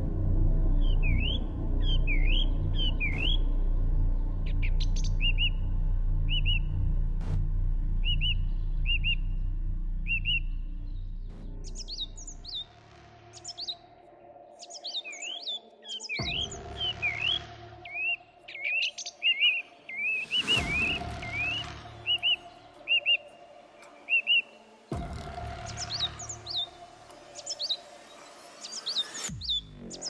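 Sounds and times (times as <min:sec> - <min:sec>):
low music drone: 0:00.0 - 0:30.0
songbirds chirping: 0:00.0 - 0:30.0.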